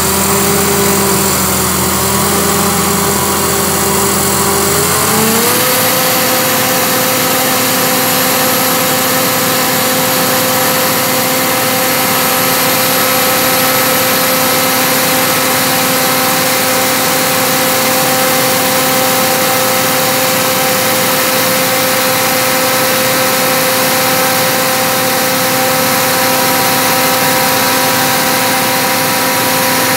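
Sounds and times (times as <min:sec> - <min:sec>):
air compressor engine running: 0:00.0 - 0:29.9
steady whine: 0:00.0 - 0:29.9.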